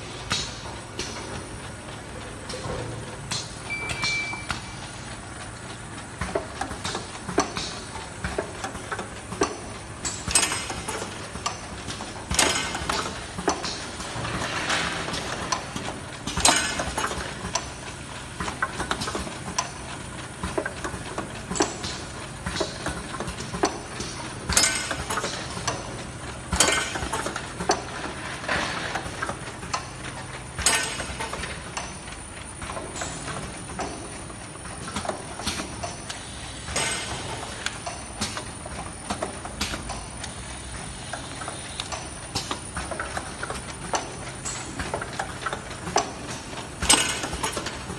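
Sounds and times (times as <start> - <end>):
sharp mechanical clacks: 0.2 - 47.9
bottling machine clatter: 0.3 - 47.9.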